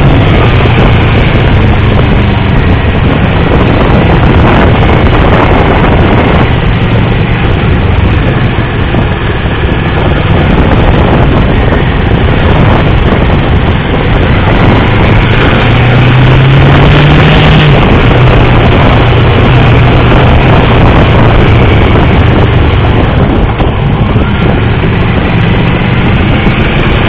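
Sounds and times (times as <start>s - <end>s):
motorcycle engine at speed: 0.0s - 27.0s
wind rush on microphone: 0.0s - 27.0s.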